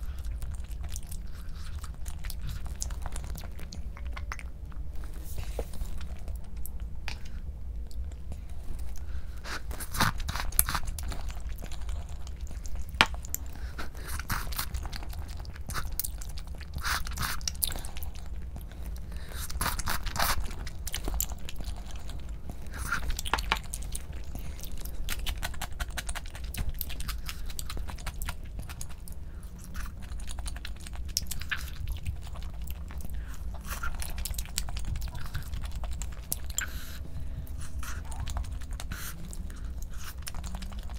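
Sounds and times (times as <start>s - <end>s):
person chewing food: 0.0s - 40.9s
steady low hum: 0.0s - 40.9s.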